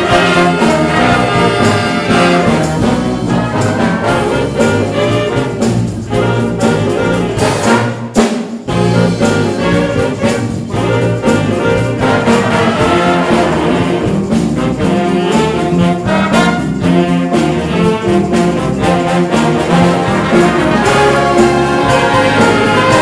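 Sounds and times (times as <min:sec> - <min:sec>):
jazz big band playing: 0:00.0 - 0:23.0.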